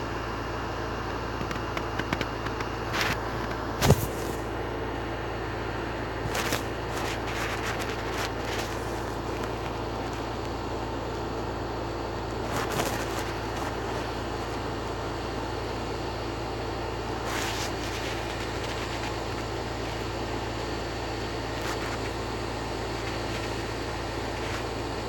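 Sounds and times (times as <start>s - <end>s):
background hum: 0.0s - 25.0s.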